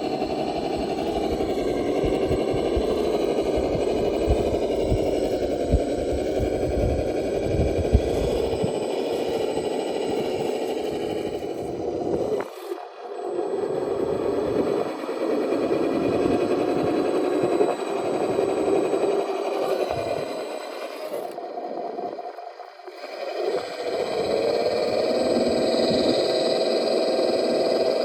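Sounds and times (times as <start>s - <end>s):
rc car electric motor running: 0.0s - 28.0s.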